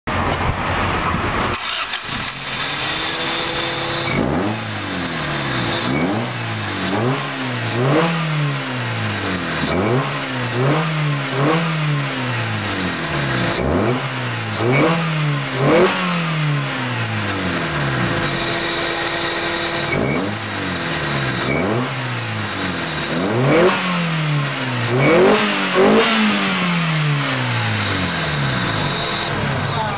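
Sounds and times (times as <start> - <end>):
car engine revving: 0.5 - 29.9.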